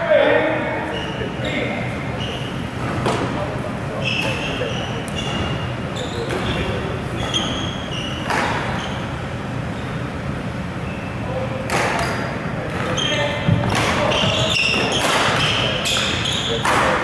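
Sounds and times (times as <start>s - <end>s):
court shoes squeaking on floor: 0.6s - 10.1s, 10.7s - 17.0s.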